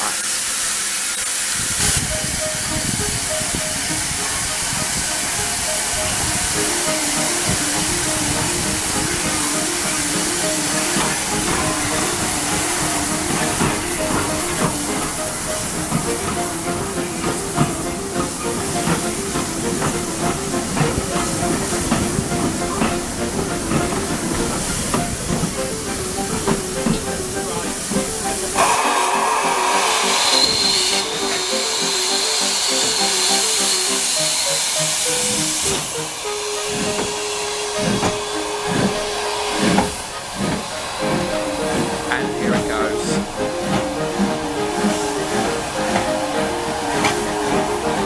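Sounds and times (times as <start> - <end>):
steam hissing: 0.0 - 48.0
background music: 2.1 - 48.0.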